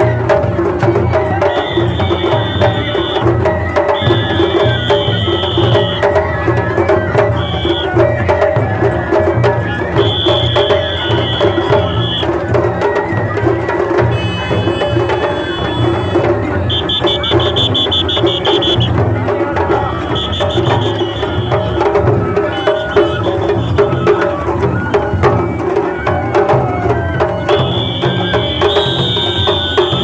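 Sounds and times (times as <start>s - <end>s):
drums beating: 0.0s - 30.0s
flute high held notes: 1.2s - 8.3s, 9.6s - 30.0s.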